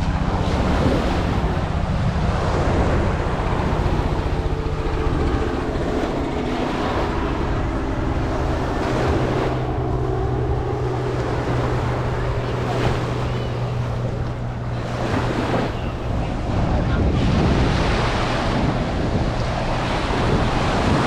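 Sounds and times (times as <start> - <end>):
ocean surf washing in: 0.0 - 21.0
steady engine drone: 0.0 - 21.0
wind buffeting microphone: 0.0 - 21.0.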